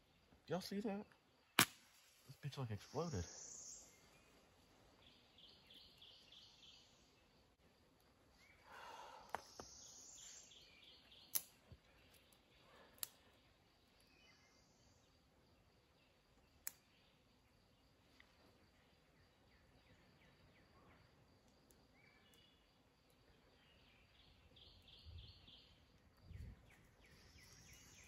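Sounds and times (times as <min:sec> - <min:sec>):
small fire popping: 0:00.0 - 0:28.0.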